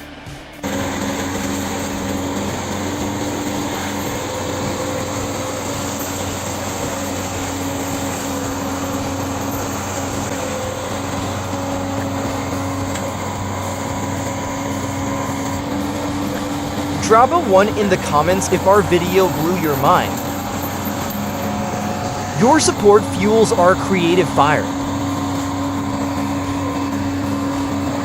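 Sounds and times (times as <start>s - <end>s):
heavy machine engine drone: 0.6s - 28.0s.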